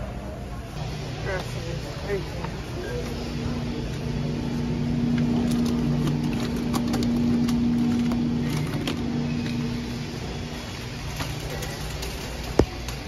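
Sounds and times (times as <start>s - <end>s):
refrigerated case fan hum: 0.0s - 13.0s.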